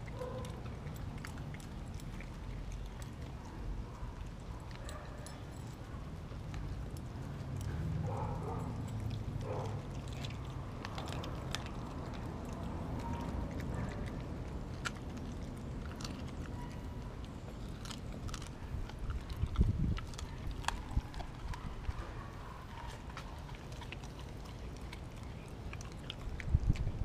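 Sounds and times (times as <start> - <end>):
dogs chewing and crunching fish: 0.0 - 27.0.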